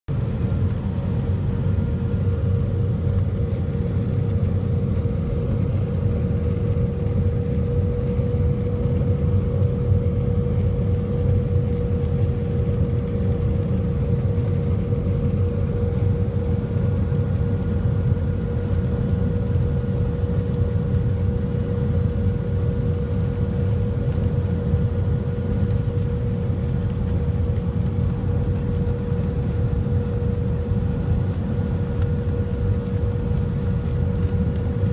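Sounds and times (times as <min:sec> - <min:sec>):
deep rumble of jet engines: 0:00.1 - 0:34.9
mid-pitched cabin hum: 0:00.1 - 0:34.9.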